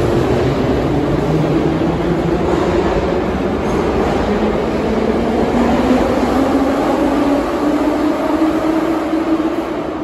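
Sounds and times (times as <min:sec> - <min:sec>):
metro train running rumble: 0:00.0 - 0:10.0.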